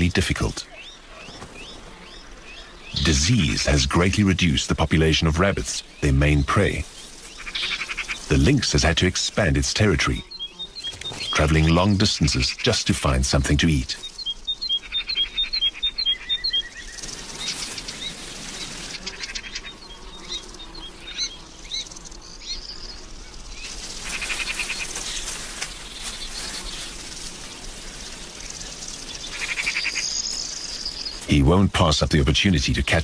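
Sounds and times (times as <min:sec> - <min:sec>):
pulsing insect buzz: 0:00.0 - 0:31.3
small birds chirping: 0:00.0 - 0:33.0.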